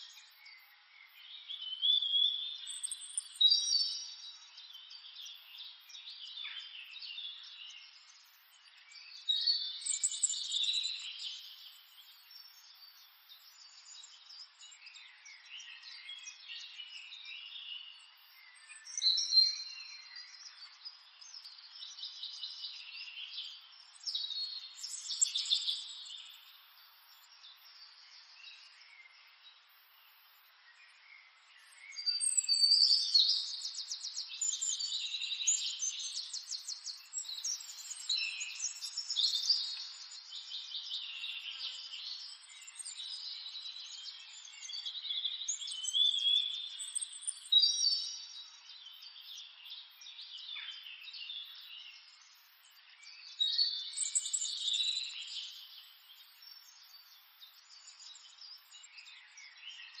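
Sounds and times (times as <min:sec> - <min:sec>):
small birds chirping and singing: 0:00.0 - 1:00.0.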